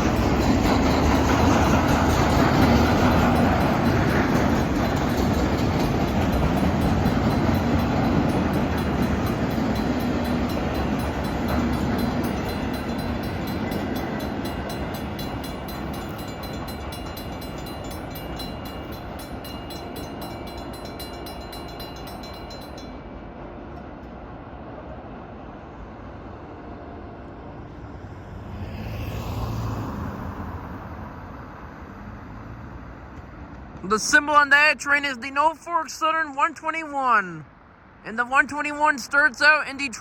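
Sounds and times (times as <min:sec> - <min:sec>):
freight cars rumbling on rails: 0:00.0 - 0:35.5.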